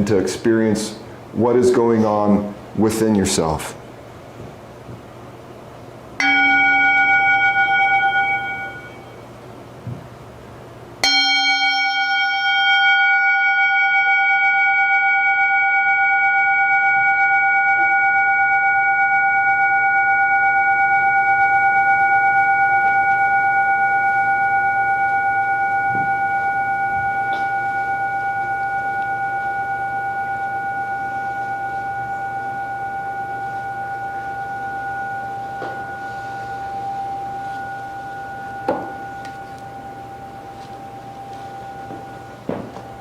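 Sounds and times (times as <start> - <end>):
singing bowl ringing: 6.2 - 9.7, 11.0 - 43.0.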